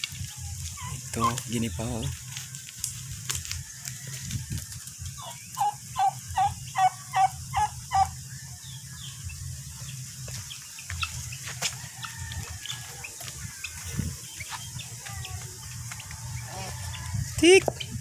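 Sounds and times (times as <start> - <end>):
poultry calling: 0.3 - 2.5, 3.3 - 18.0.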